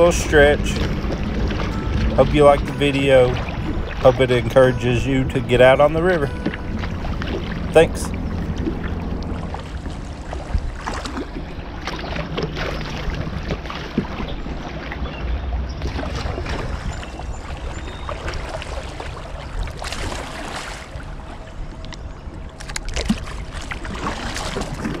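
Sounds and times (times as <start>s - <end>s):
water splashing against kayak hull: 0.0s - 25.0s
wind rumble on microphone: 0.0s - 25.0s.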